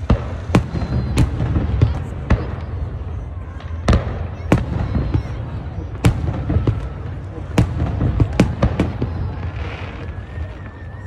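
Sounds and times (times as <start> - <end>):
fireworks bangs: 0.0 - 11.0
fireworks crackle and rumble: 0.0 - 11.0.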